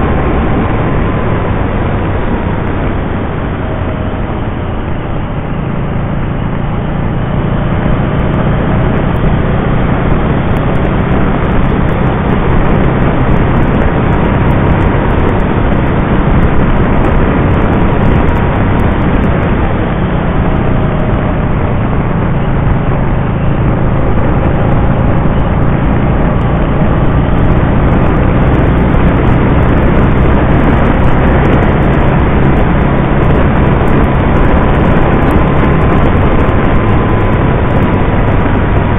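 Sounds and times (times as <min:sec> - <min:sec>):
motorcycle engine drone: 0:00.0 - 0:38.9
wind and road rush: 0:00.0 - 0:38.9.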